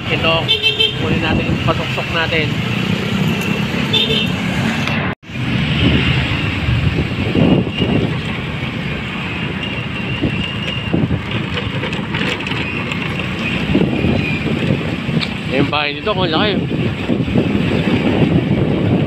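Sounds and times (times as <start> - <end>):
motorcycle engine: 0.0 - 16.0
road noise: 0.0 - 19.0.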